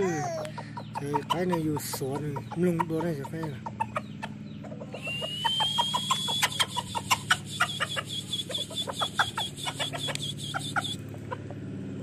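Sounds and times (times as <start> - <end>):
rooster clucking: 0.0 - 12.0
steady low hum: 0.0 - 12.0
high fast-pulsing chirp: 0.6 - 11.1.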